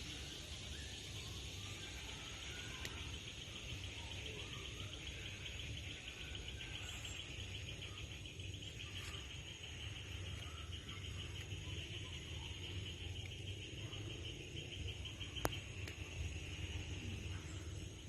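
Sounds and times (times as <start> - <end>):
faint bird chirps: 0.0 - 18.0
insects trilling: 0.0 - 18.0.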